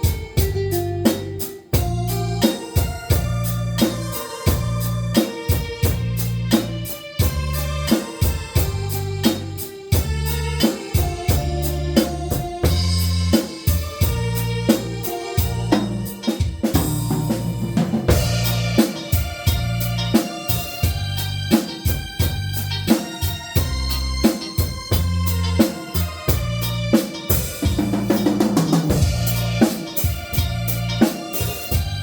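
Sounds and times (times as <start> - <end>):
bass: 0.0 - 32.0
drum kit beat: 0.0 - 32.0
electronic organ melody: 0.0 - 32.0.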